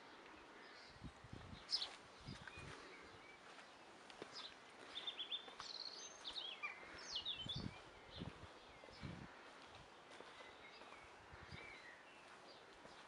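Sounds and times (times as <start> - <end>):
garden birds chirping and singing: 0.0 - 13.0
quiet outdoor background noise: 0.0 - 13.0.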